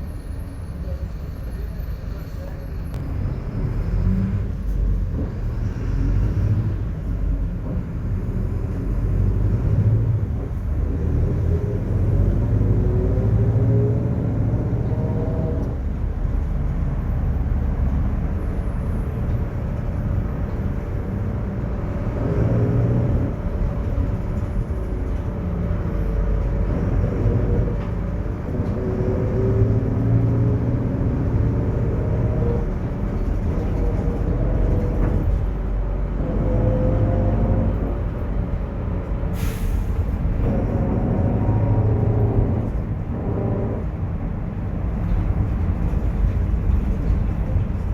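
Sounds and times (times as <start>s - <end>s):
bus diesel engine rumbling: 0.0s - 47.9s.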